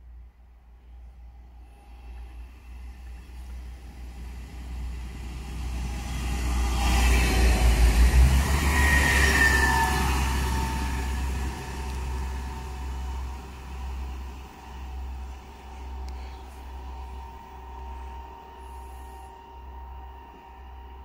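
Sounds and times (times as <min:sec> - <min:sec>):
faint whine: 0:00.0 - 0:21.0.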